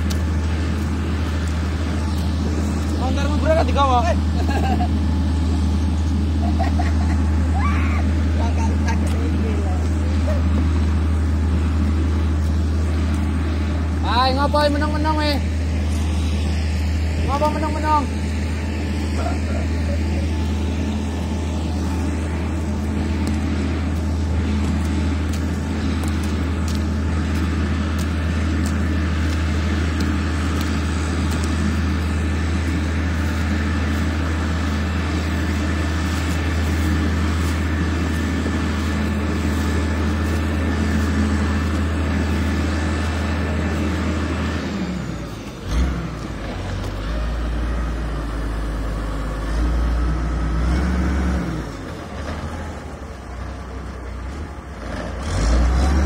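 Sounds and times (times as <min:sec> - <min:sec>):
heavy engine deep hum: 0:00.0 - 0:56.0.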